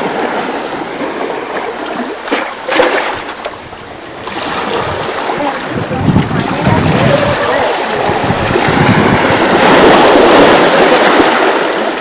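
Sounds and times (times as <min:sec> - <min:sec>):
sea water splashing among boulders: 0:00.0 - 0:12.0.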